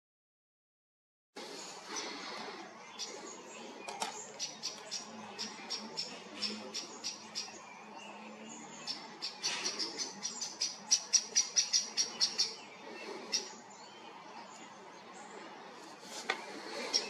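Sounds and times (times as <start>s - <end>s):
bird chirping: 1.5s - 17.0s.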